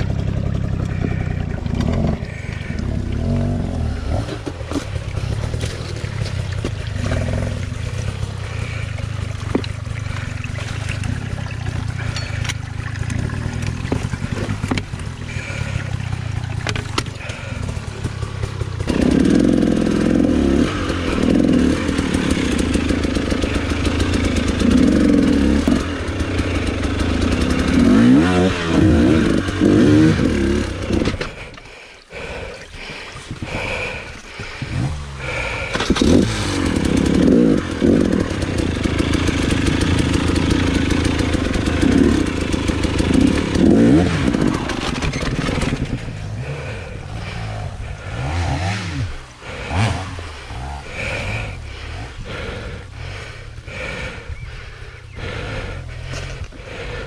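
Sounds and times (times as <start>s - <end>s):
dirt bike engine revving: 0.0s - 31.6s, 33.5s - 57.0s.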